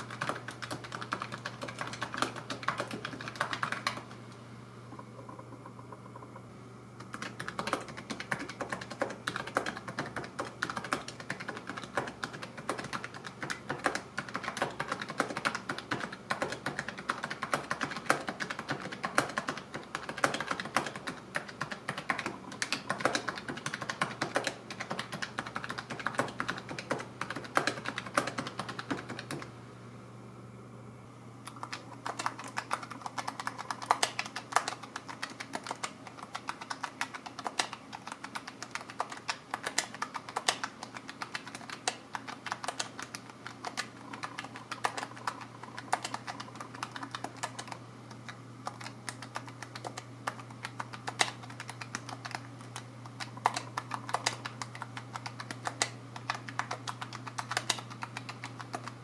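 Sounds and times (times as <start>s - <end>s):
small keyboard keys clicking: 0.0s - 4.2s, 7.0s - 29.5s, 31.4s - 59.0s.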